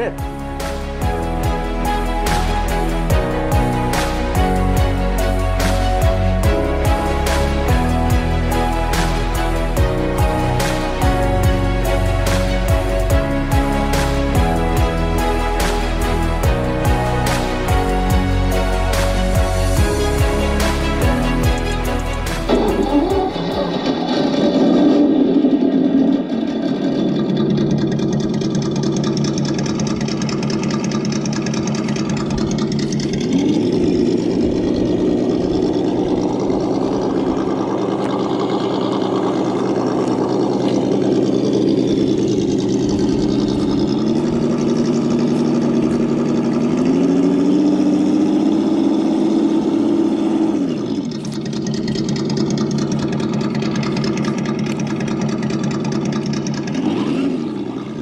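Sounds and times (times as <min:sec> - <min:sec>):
simulated engine through speaker: 0:00.0 - 0:19.3, 0:20.1 - 0:58.0.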